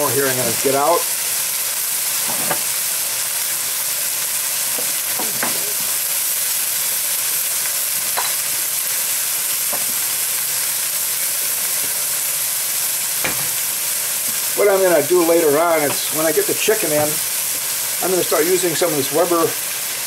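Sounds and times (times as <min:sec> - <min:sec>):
onions sizzling in a wok: 0:00.0 - 0:20.0.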